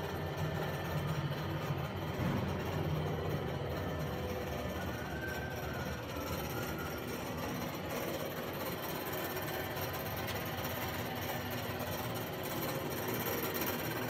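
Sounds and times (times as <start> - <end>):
lathe mechanical rattle: 0.0 - 14.0.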